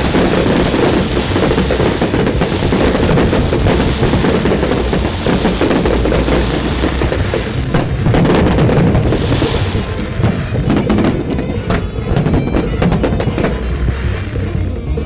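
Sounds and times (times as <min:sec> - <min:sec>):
big-band jazz music: 0:00.0 - 0:15.0
fireworks bursting and crackling: 0:00.0 - 0:15.0.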